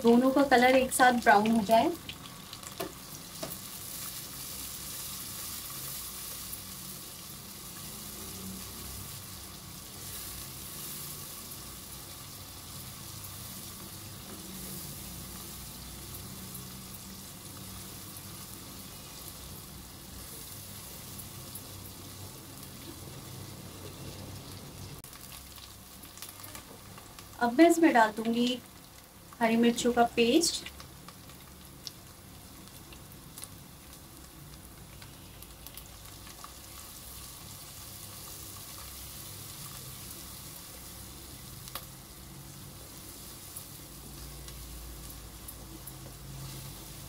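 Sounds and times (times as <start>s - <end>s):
onions sizzling in hot oil: 0.0s - 47.0s.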